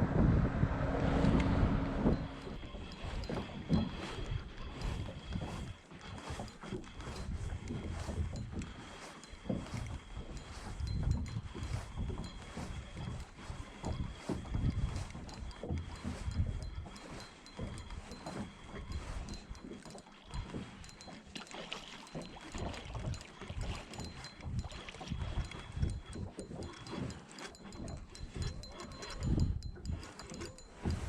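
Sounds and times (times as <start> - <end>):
wind buffeting microphone: 0.0 - 19.6, 22.4 - 31.0
water lapping against hull: 0.0 - 31.0.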